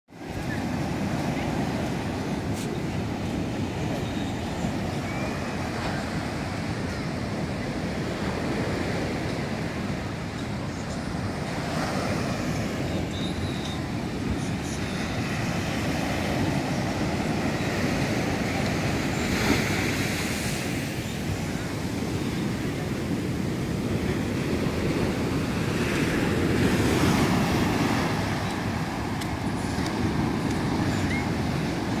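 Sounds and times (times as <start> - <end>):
sea surf breaking on beach: 0.1 - 32.0.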